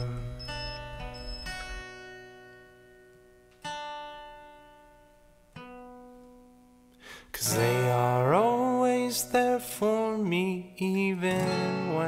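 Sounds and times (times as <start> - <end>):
acoustic guitar strums ringing: 0.0 - 12.0.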